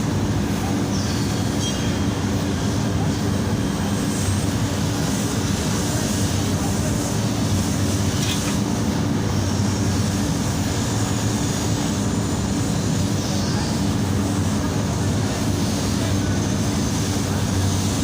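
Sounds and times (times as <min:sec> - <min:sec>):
machine droning: 0:00.0 - 0:18.0.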